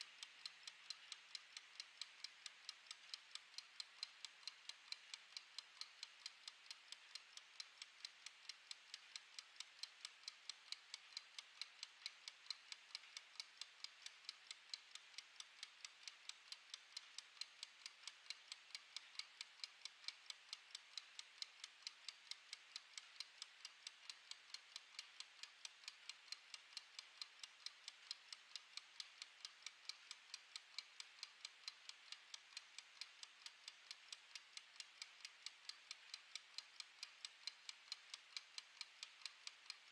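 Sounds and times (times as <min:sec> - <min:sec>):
kitchen timer ticking: 0:00.0 - 0:39.9.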